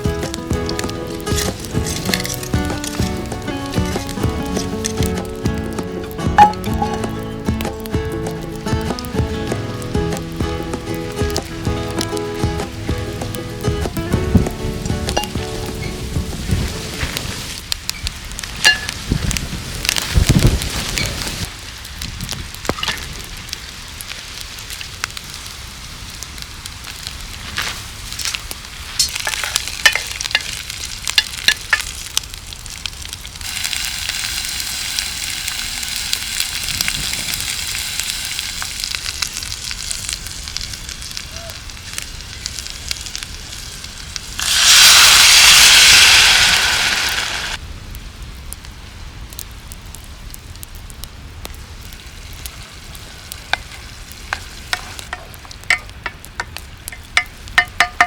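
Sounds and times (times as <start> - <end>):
food sizzling: 0.0 - 47.6, 51.6 - 58.0
campfire crackling: 0.0 - 58.0.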